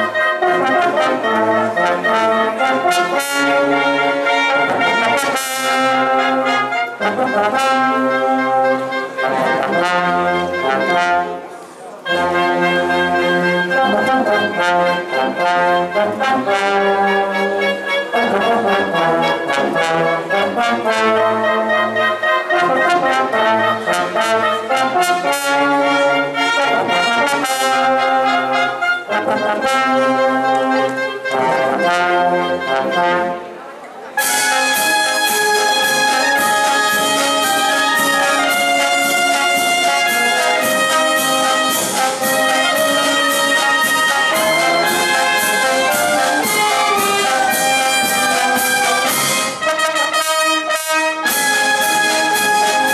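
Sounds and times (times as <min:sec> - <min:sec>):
wind band playing outdoors: 0:00.0 - 0:52.9.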